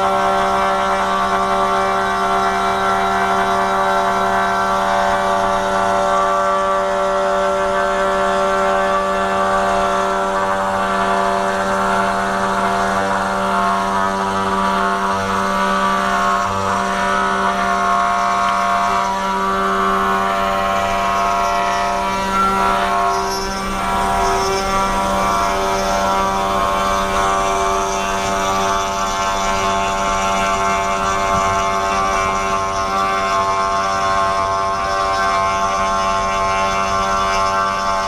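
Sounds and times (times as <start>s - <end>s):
cnc router cutting wood: 0.0s - 38.0s.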